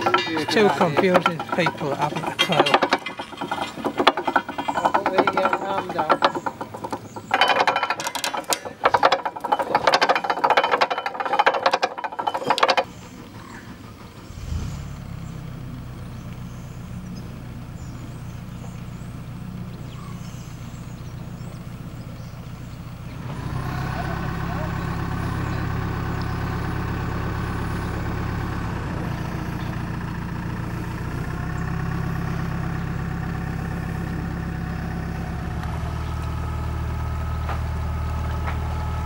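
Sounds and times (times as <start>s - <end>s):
gear winch clattering: 0.0s - 13.6s, 16.2s - 39.0s
boat engine idling: 0.0s - 39.0s.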